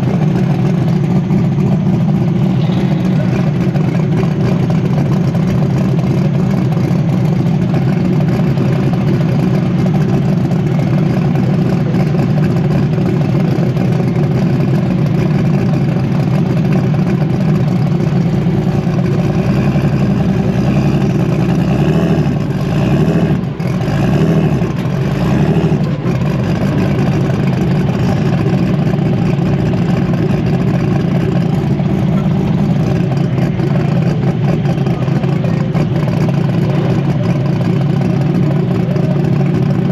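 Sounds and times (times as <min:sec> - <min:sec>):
engine running loudly: 0:00.0 - 0:39.9.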